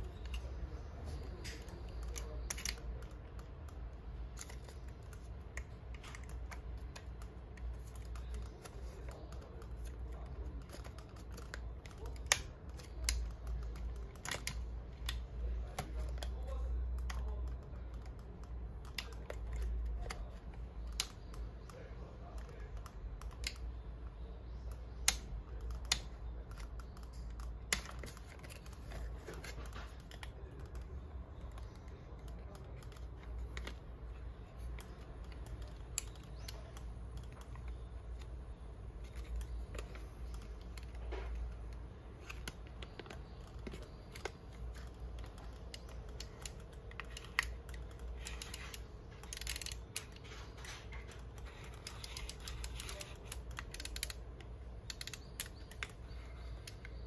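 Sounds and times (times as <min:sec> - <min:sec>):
sharp plastic or metal clicks: 0:01.4 - 0:21.8, 0:24.6 - 0:57.0.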